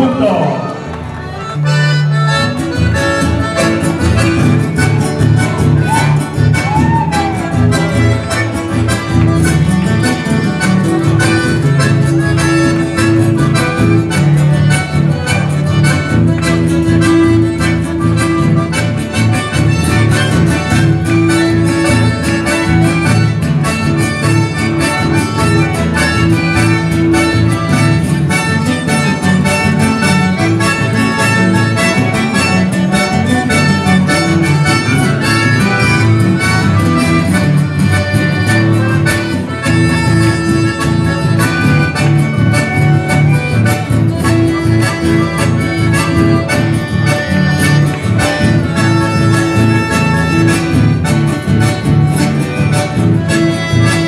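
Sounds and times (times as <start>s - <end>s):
acoustic guitar: 0.0s - 54.0s
button accordions playing: 0.0s - 54.0s.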